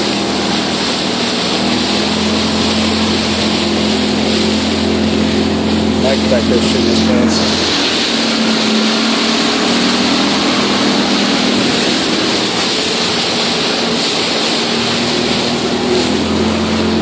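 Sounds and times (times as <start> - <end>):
outboard motor running: 0.0 - 17.0
wind and water rushing: 0.0 - 17.0.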